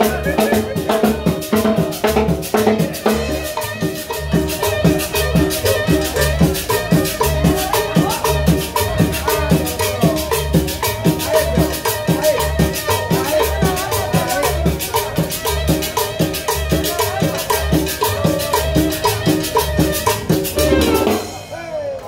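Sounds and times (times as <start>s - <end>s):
congas: 0.0s - 22.0s
latin dance band playing: 0.0s - 22.0s.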